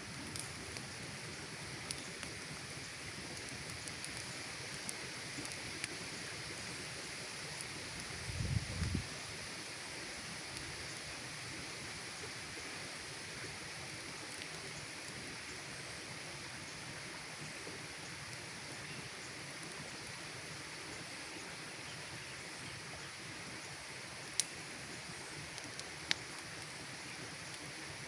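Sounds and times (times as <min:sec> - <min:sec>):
campfire hissing: 0:00.0 - 0:28.0
fire crackles: 0:00.0 - 0:28.0.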